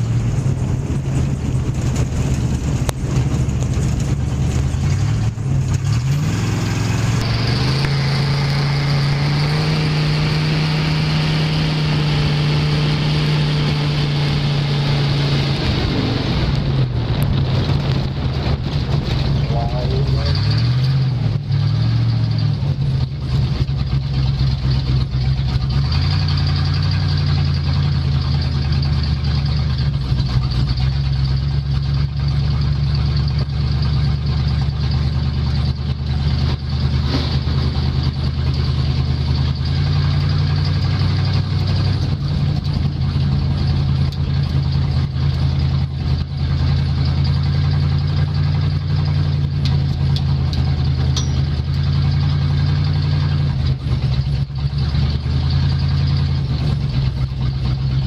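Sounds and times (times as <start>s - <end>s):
race car engine low drone: 0.0s - 58.0s.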